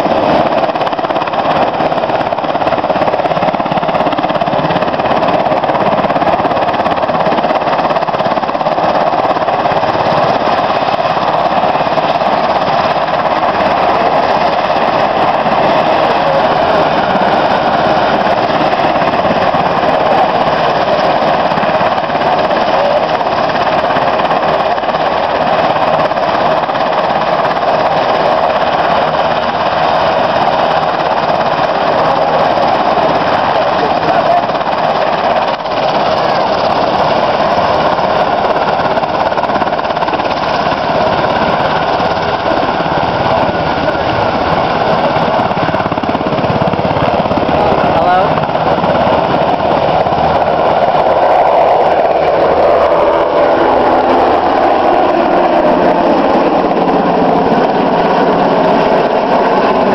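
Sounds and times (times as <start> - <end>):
helicopter turbine whine and rotors: 0.0 - 59.9.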